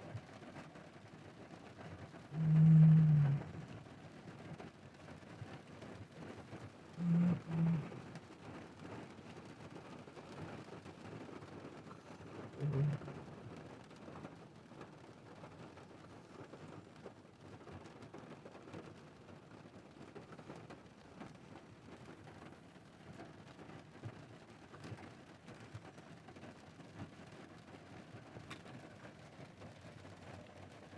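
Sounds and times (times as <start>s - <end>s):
rain hissing on a car: 0.0s - 30.9s.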